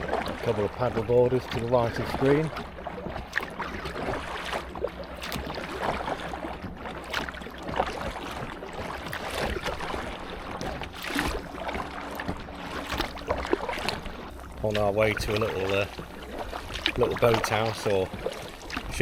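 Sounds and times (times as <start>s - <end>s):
paddle splashing in water: 0.0s - 19.0s
water sloshing against hull: 0.0s - 19.0s.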